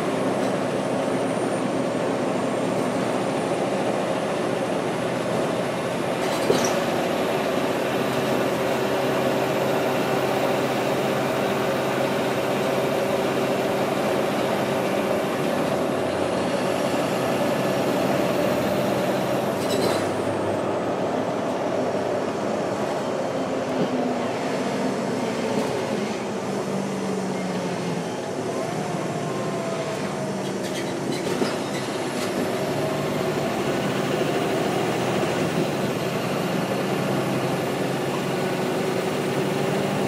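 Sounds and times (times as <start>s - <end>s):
bus diesel engine running: 0.0s - 40.0s
road and tyre noise: 0.0s - 40.0s.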